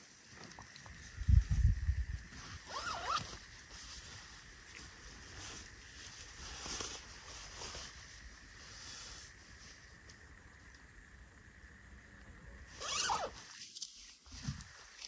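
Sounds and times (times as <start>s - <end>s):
rustling and handling noises: 0.0s - 10.2s, 12.8s - 15.0s.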